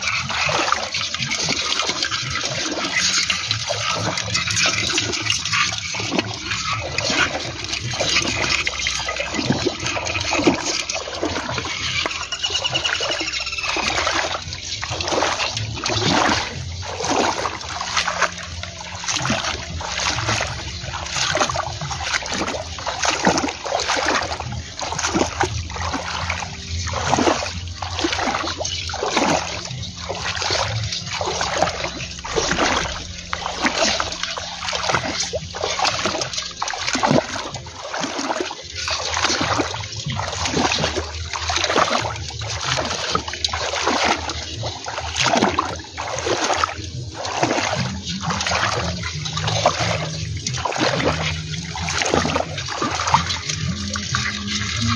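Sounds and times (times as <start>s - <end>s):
footsteps wading through water: 0.0s - 54.9s.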